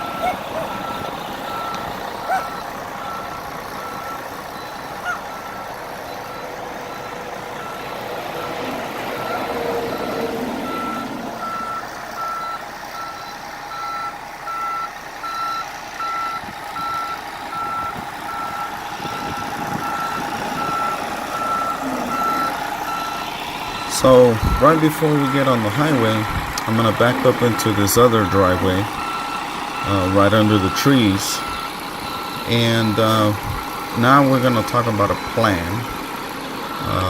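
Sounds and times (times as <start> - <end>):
backup alarm beeping: 0.0 - 37.0
bus diesel engine running: 0.0 - 37.0.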